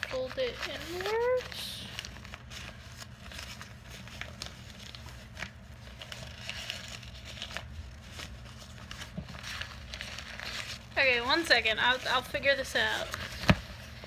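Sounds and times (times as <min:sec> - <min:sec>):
fabric rustling and crinkling: 0:00.0 - 0:14.0.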